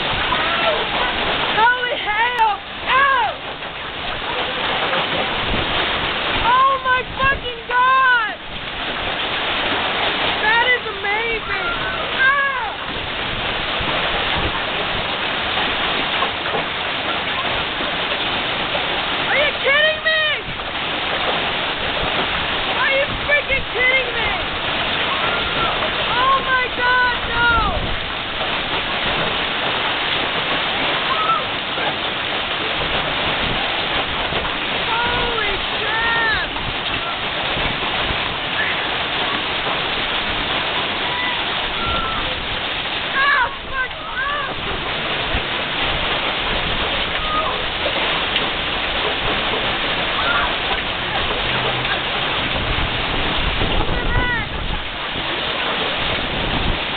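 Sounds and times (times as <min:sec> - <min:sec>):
hail and rain pelting down: 0:00.0 - 0:56.9.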